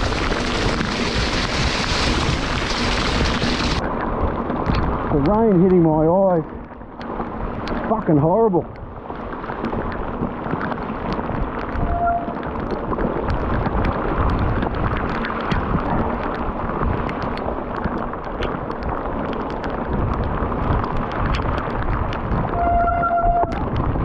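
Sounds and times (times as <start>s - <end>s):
heavy rain: 0.0s - 24.0s
raindrops tapping camera: 0.0s - 24.0s
wind buffeting microphone: 0.0s - 24.0s.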